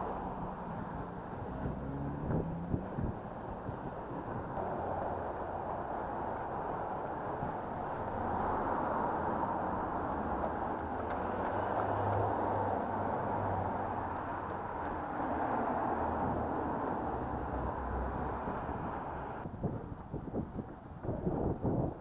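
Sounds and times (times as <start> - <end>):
muffled passing car traffic: 0.0 - 19.5.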